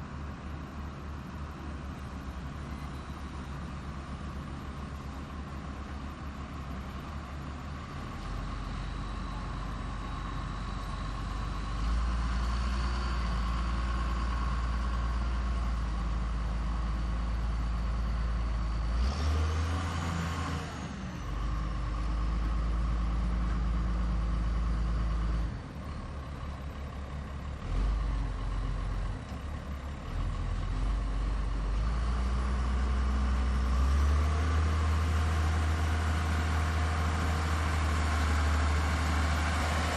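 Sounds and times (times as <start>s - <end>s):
diesel construction machine engine: 0.0s - 39.9s.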